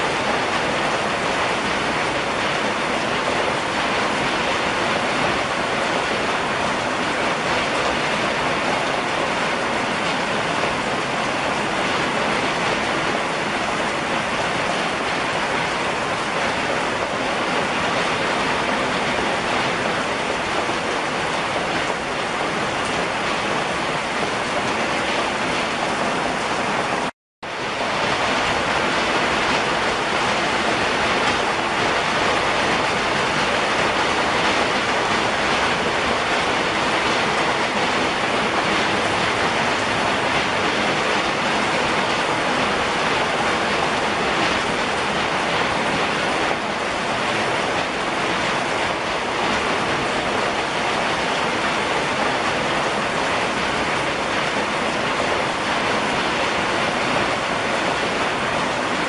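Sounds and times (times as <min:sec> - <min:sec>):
rain on trees and wooden deck: 0:00.0 - 0:59.0.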